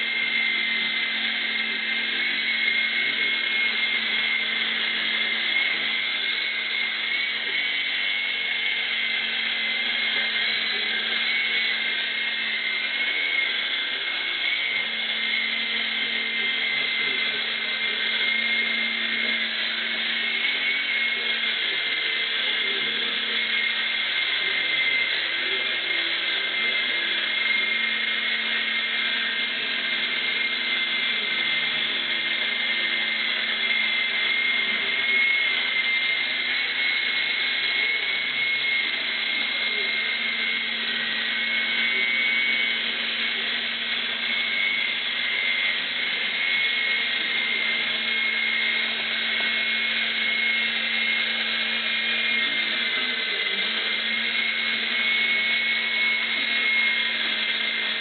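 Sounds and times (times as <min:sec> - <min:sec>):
toy helicopter motor whining: 0:00.0 - 0:58.0.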